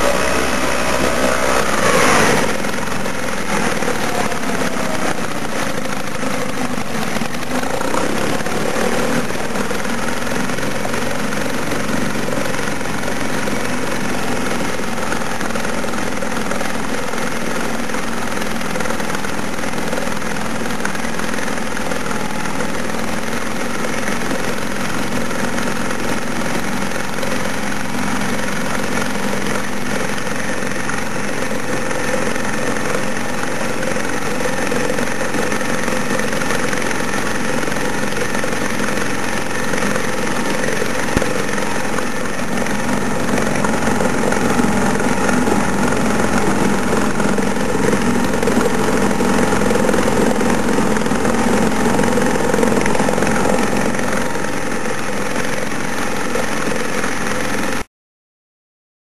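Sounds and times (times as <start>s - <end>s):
outboard engine running: 0.0s - 57.9s
propeller churning water: 0.0s - 57.9s.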